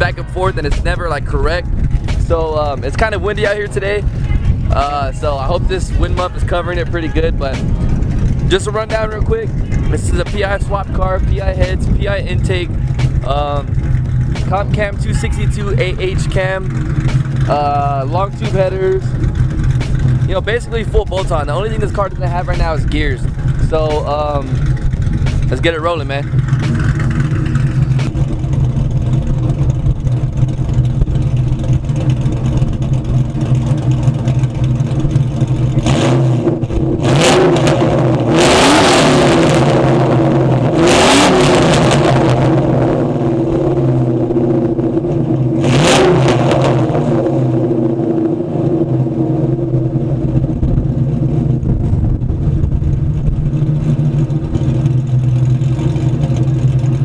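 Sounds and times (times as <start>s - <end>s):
car engine idling with choppy lope: 0.0s - 57.0s
engine revving: 0.0s - 57.0s.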